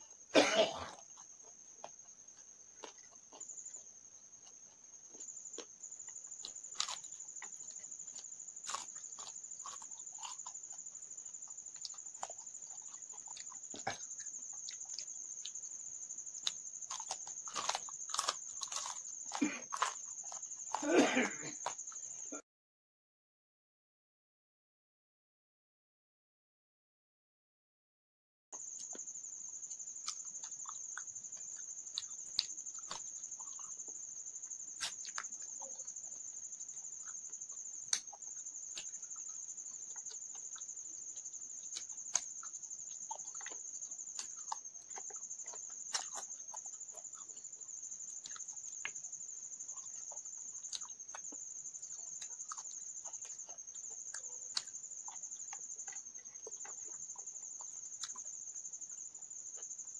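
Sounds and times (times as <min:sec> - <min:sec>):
chewing and eating by hand: 0:00.0 - 0:22.4, 0:28.6 - 0:59.9
crickets trilling: 0:00.0 - 0:22.4, 0:28.6 - 0:59.9.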